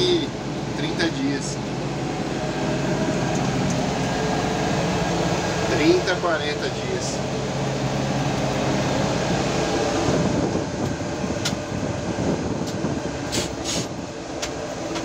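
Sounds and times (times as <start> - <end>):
crop sprayer engine running: 0.0 - 15.0.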